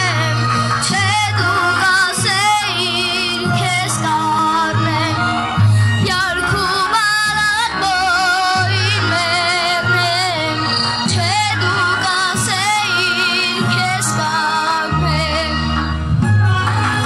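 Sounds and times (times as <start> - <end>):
backing track with bass: 0.0 - 17.0.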